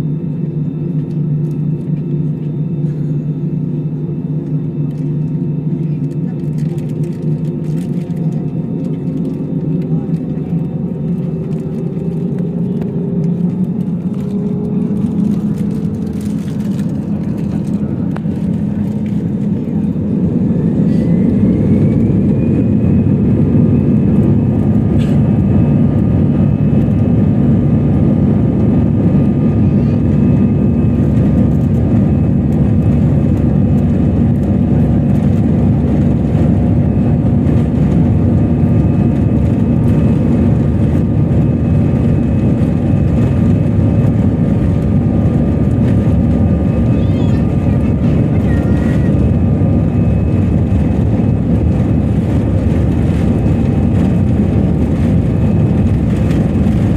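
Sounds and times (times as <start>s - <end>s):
jet engines spooling up: 6.5s - 56.9s
engine whine rising in pitch: 10.7s - 56.9s.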